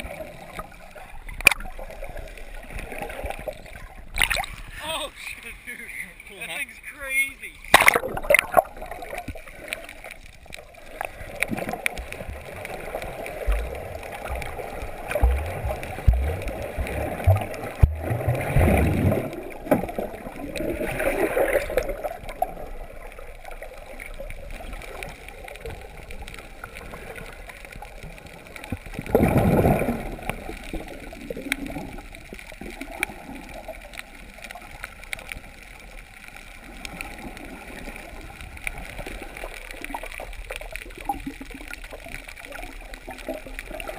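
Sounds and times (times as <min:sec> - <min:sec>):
bubbling rushes: 0:00.0 - 0:05.3, 0:07.6 - 0:43.9
underwater gurgling and sloshing: 0:00.0 - 0:43.9.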